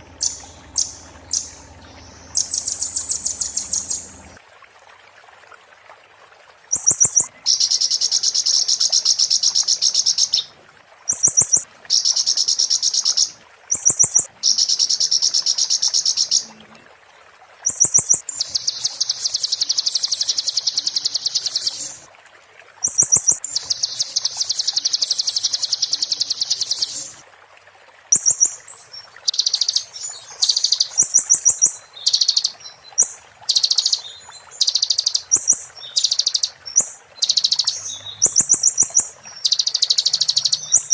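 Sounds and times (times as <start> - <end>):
bird singing rapid rattling trills: 0.0 - 4.4, 6.7 - 10.5, 11.1 - 16.4, 17.6 - 22.0, 22.8 - 27.2, 28.1 - 40.9.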